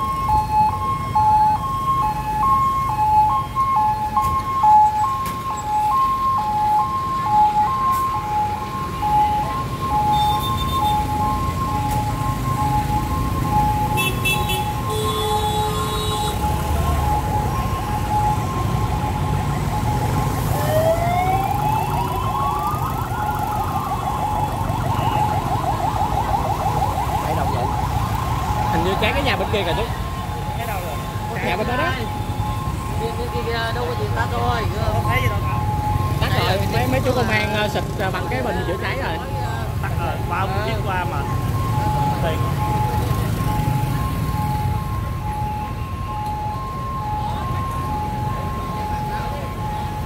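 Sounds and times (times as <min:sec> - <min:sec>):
fire truck two-tone siren: 0:00.0 - 0:50.0
low rumble of passing traffic: 0:00.0 - 0:50.0.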